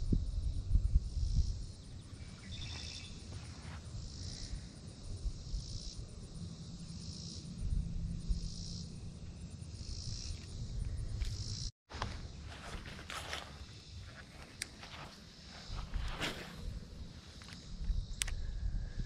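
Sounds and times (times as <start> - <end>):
insects calling in pulses: 0.0 - 19.0.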